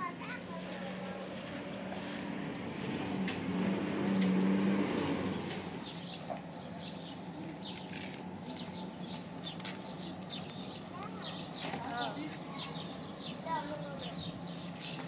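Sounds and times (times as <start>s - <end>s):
small birds chirping: 0.0s - 3.0s, 4.9s - 15.0s.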